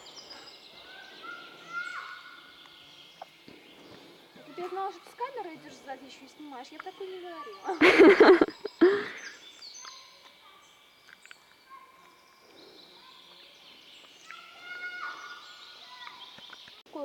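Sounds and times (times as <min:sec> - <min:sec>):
small birds singing: 0:00.0 - 0:17.0.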